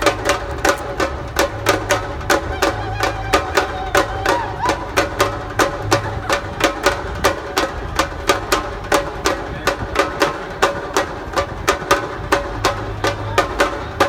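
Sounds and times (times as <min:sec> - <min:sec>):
samba-reggae drum band: 0:00.0 - 0:14.0.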